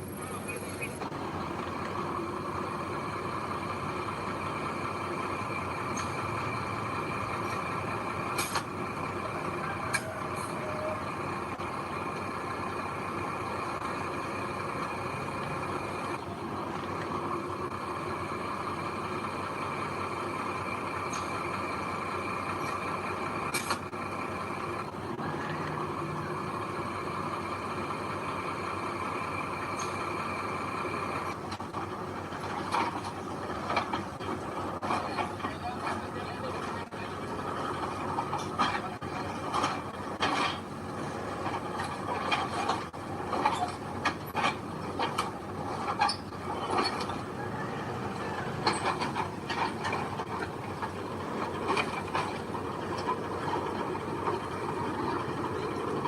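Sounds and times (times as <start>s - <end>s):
heavy diesel machinery drone: 0.0s - 56.0s.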